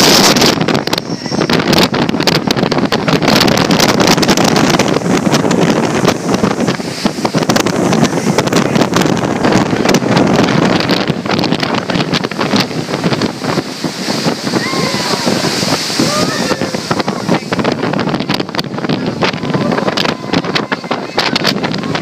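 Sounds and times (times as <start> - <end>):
storm waves breaking: 0.0 - 22.0
wind buffeting microphone: 0.0 - 22.0.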